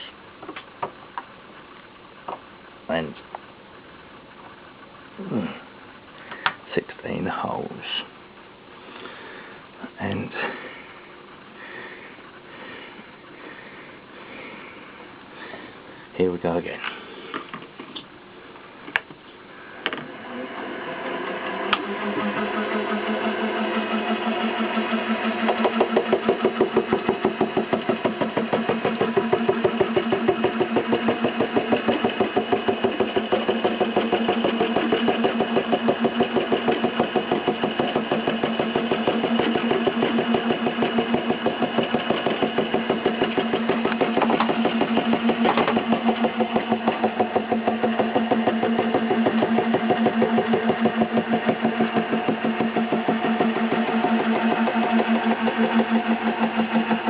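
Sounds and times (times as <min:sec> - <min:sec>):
milling machine humming and pulsing: 0:00.0 - 0:57.0.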